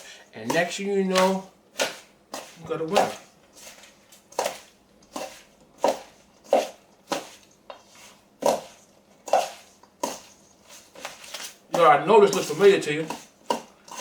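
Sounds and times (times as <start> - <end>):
utensil scraping coleslaw in bowl: 0.0 - 14.0.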